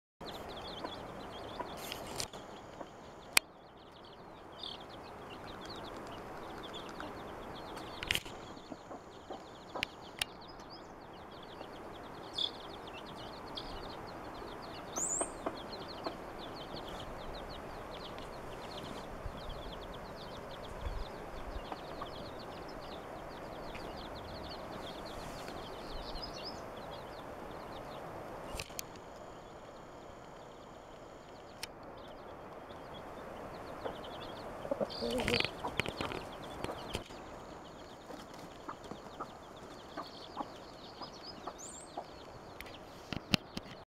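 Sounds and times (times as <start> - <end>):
baby chicks peeping: 0.2 - 43.8.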